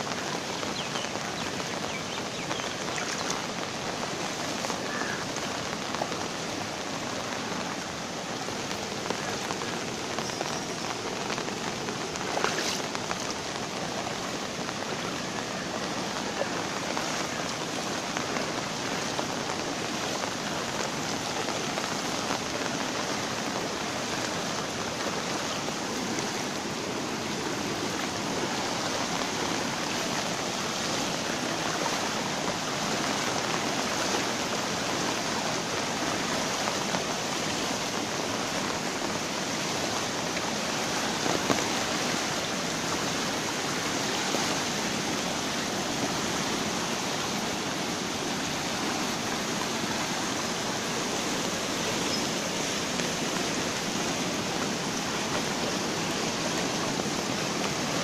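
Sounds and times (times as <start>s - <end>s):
floodwater rushing: 0.0s - 58.0s.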